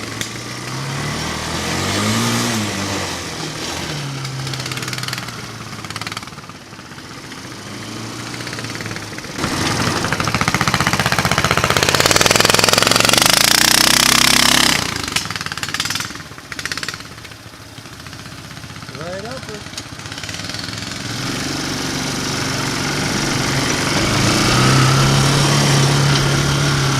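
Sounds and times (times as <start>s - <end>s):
single-cylinder engine revving: 0.0s - 26.9s.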